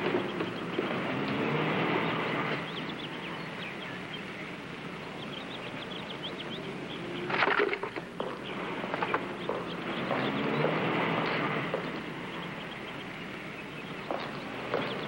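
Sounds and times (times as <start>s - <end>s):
low pitched calls: 0.0s - 15.0s
small birds chirping: 0.0s - 15.0s
steady background hiss: 0.0s - 15.0s.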